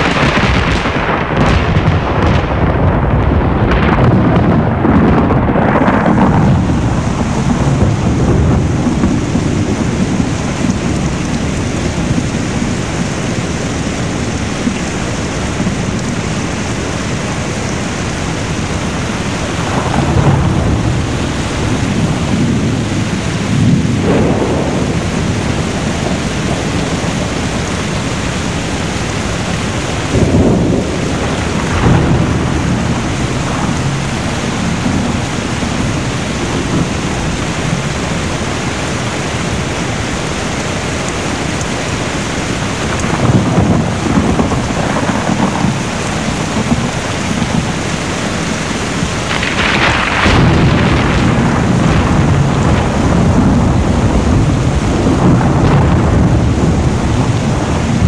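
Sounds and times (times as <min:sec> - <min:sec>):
heavy rain: 0:00.0 - 0:58.0
thunder rumbling: 0:00.0 - 0:58.0.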